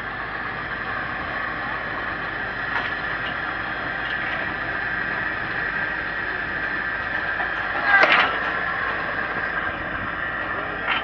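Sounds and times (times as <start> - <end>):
cutting machine whine and hum: 0.0 - 11.0.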